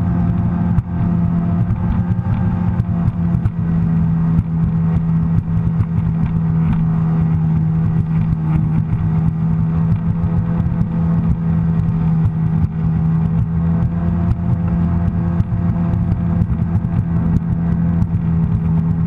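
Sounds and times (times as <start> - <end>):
watercraft engine droning: 0.0 - 19.0.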